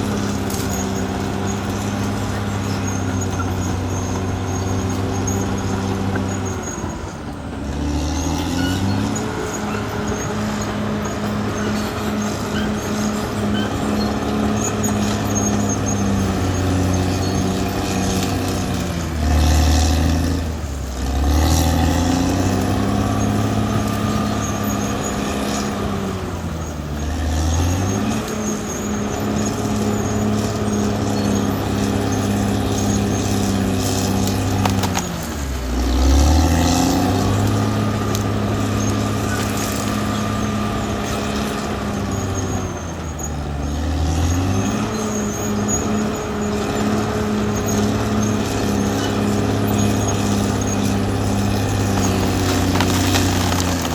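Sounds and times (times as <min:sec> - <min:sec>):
bulldozer diesel engine running hard: 0:00.0 - 0:53.9.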